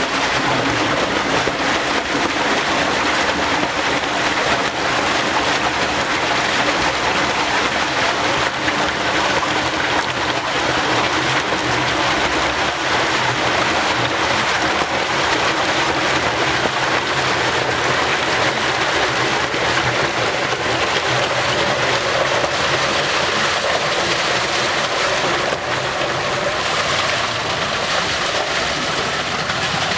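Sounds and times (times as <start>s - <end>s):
water gushing from drain: 0.0s - 29.9s.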